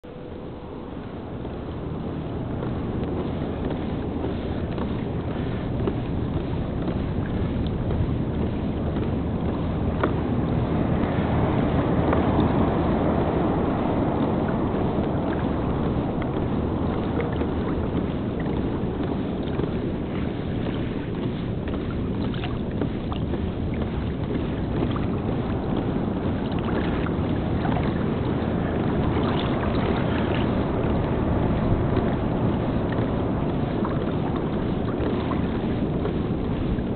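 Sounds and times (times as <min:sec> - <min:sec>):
water lapping against hull: 0:00.0 - 0:36.9
wind noise on microphone: 0:00.0 - 0:36.9.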